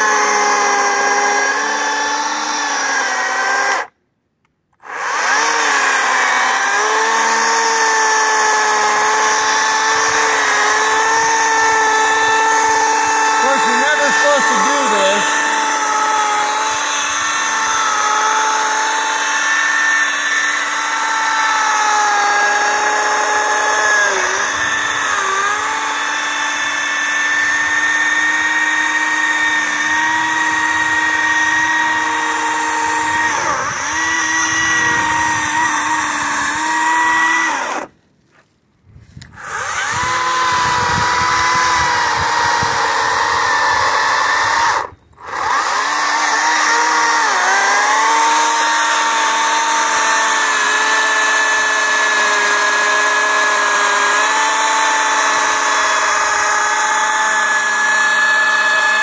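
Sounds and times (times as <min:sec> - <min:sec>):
electric chainsaw cutting log: 0:00.0 - 0:04.0, 0:04.8 - 0:38.0, 0:39.2 - 0:59.0.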